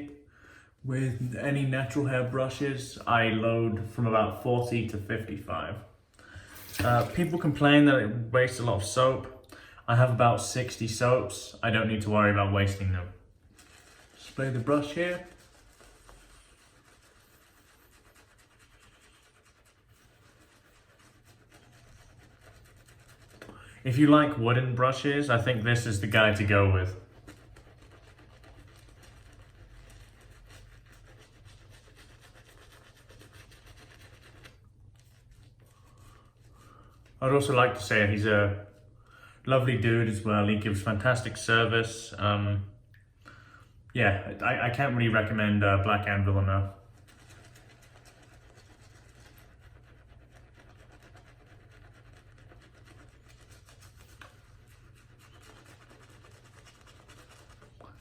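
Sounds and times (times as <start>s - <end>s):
shaving brush scrubbing lather: 0.9s - 5.8s, 6.6s - 9.3s, 9.9s - 38.8s, 39.5s - 42.1s, 44.1s - 58.0s.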